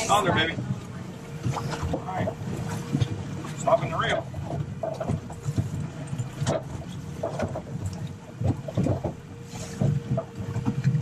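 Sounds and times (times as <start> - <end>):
water slapping against boat: 0.0 - 11.0.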